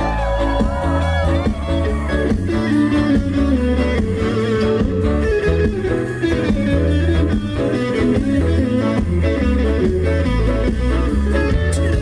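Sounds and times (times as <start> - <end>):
bass line: 0.0 - 12.0
drums: 0.0 - 12.0
electric guitar: 0.0 - 12.0.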